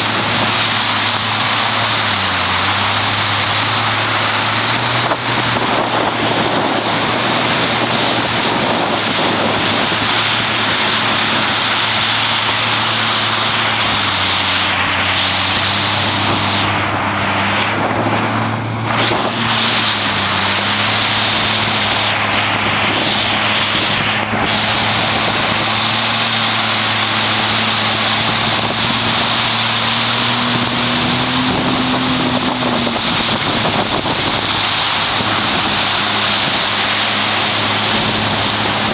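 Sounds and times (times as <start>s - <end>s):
boat engine running at high revs: 0.0s - 38.9s
water spray and wind rushing: 0.0s - 38.9s.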